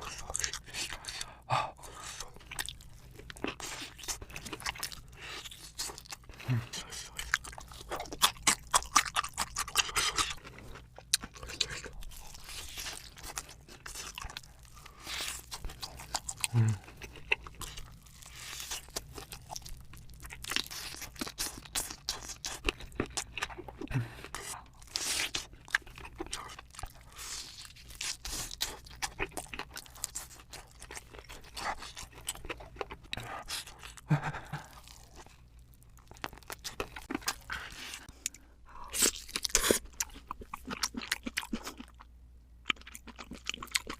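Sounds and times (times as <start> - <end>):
person crunching and chewing food: 0.0 - 43.9.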